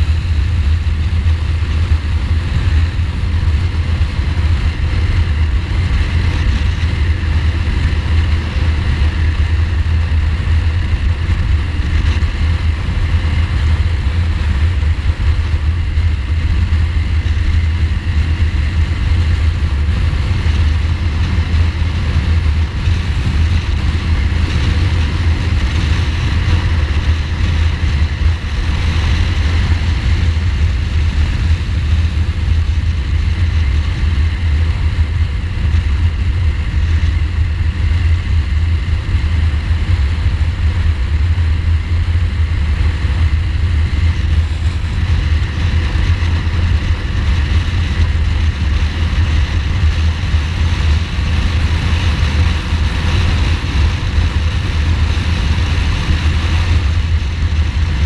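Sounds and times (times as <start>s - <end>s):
motorcycle engine cruising: 0.0s - 58.0s
wind rushing on microphone: 0.0s - 58.0s.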